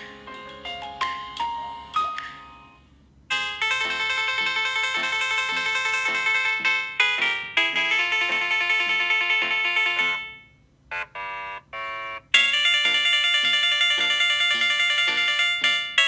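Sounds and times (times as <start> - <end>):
bright bell-like ringtone melody: 0.0 - 10.6, 11.2 - 16.0.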